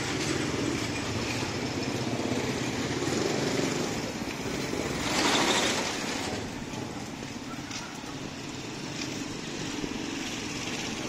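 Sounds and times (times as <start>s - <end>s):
motorcycle engines passing: 0.0s - 11.0s.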